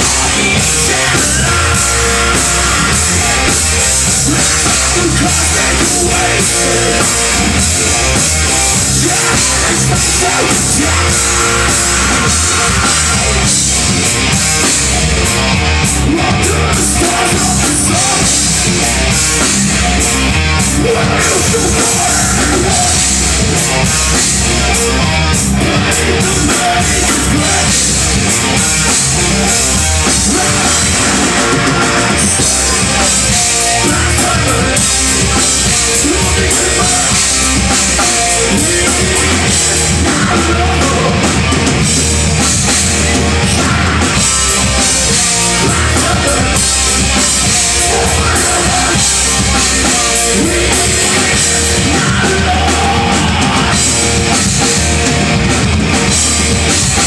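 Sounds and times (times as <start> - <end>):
person singing: 0.0 - 13.6, 15.6 - 24.9, 25.6 - 41.7, 42.9 - 55.2
bass guitar: 0.0 - 57.0
distorted electric guitars: 0.0 - 57.0
drum kit: 0.0 - 57.0.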